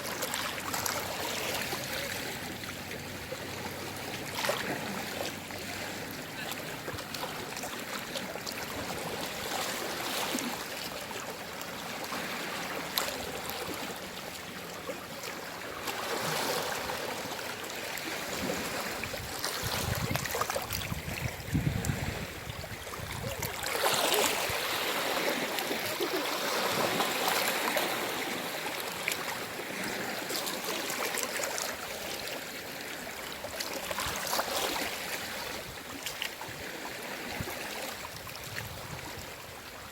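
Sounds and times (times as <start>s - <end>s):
sea waves washing in and out: 0.0s - 39.9s.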